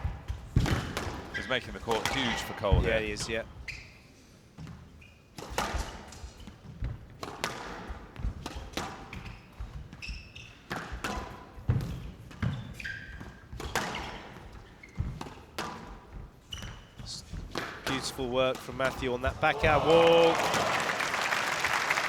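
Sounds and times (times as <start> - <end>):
squash ball hitting rackets and walls: 0.0 - 3.4, 4.6 - 20.7
shoes squeaking on court floor: 0.0 - 22.0.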